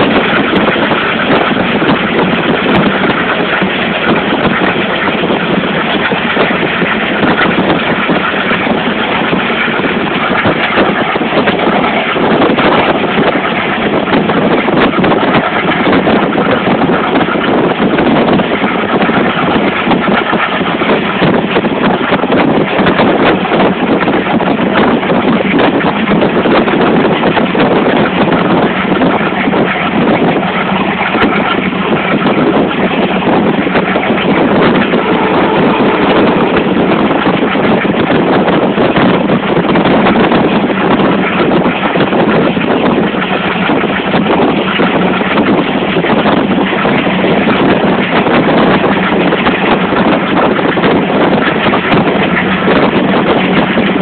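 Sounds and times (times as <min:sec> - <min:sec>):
train running noise on board: 0:00.0 - 0:54.0.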